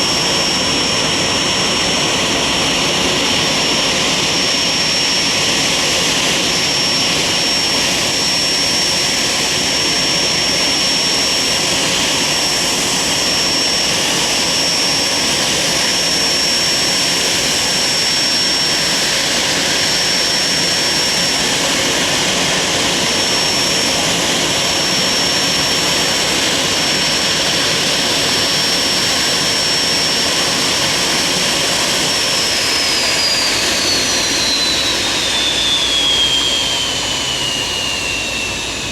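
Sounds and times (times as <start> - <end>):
jet engines roaring and whining: 0.0 - 38.9.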